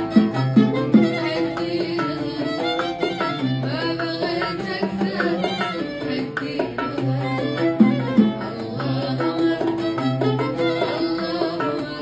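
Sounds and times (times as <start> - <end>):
bowed violin: 0.0 - 12.0
hand drums: 0.0 - 12.0
plucked oud notes: 0.0 - 12.0.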